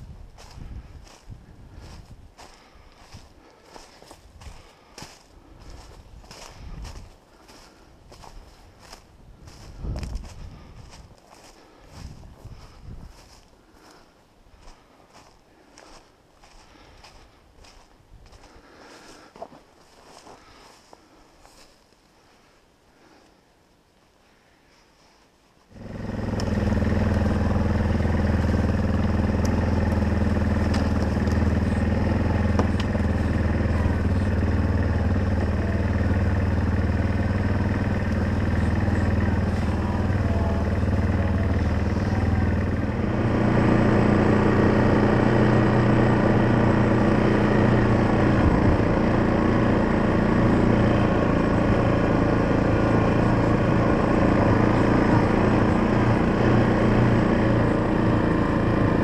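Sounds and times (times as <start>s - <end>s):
atv engine running: 0.0s - 19.4s, 25.7s - 59.0s.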